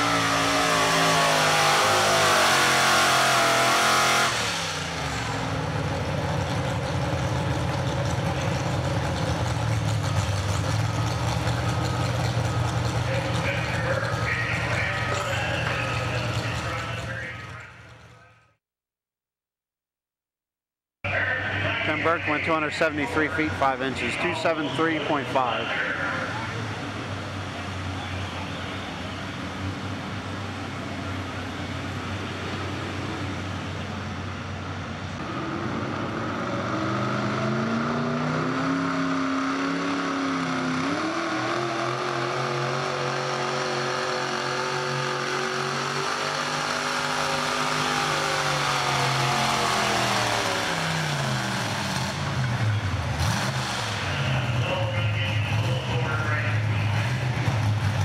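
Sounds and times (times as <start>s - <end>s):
truck engine idling and revving: 0.0s - 18.6s, 21.0s - 58.0s.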